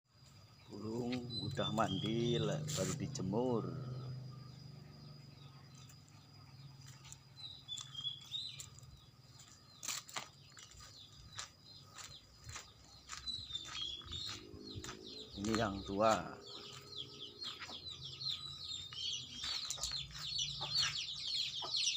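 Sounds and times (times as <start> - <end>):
high bird chirps: 0.5 - 21.9.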